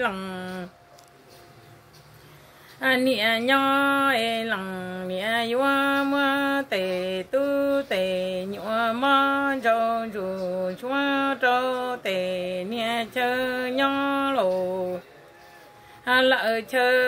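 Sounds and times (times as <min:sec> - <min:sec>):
woman singing slow chant: 0:00.0 - 0:00.8, 0:02.8 - 0:17.0.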